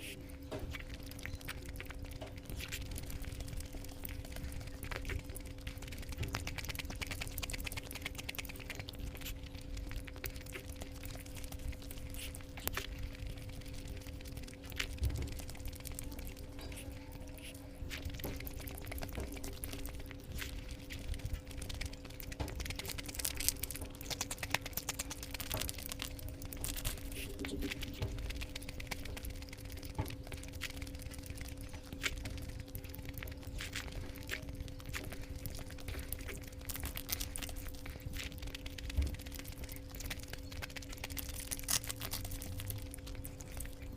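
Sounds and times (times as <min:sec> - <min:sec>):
faint steady hum: 0:00.0 - 0:43.9
wet chewing clicks: 0:00.0 - 0:43.9.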